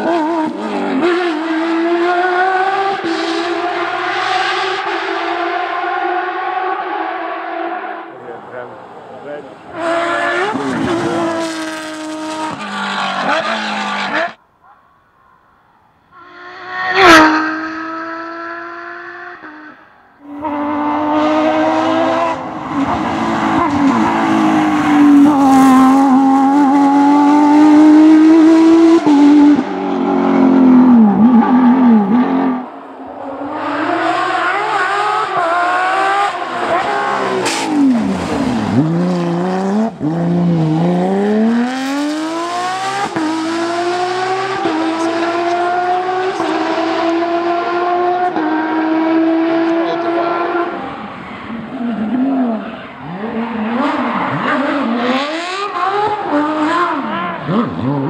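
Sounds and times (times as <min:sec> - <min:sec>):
rally car engines at full throttle: 0:00.0 - 0:14.8, 0:16.0 - 0:58.0.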